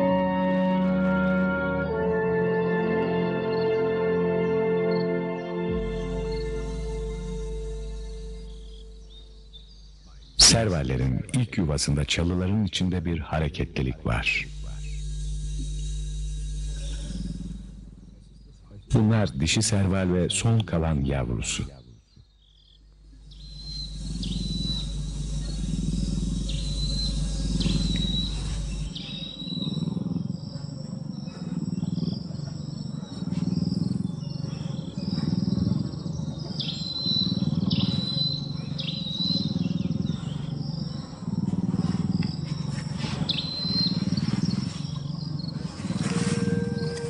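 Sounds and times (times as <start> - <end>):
high insect buzz: 0.0 - 10.8, 14.0 - 19.1, 22.3 - 47.0
birds chirping: 0.0 - 47.0
cat purring: 5.7 - 20.7, 23.0 - 47.0.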